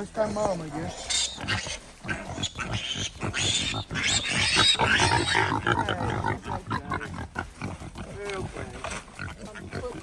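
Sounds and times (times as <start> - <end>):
pigs grunting and squealing: 0.1 - 10.0.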